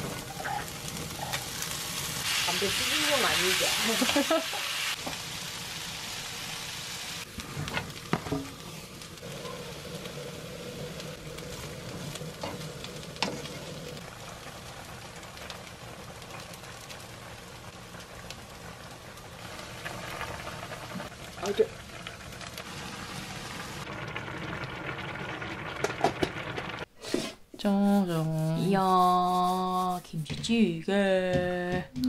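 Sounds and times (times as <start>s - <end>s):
vegetables sizzling in oil: 0.0s - 27.2s.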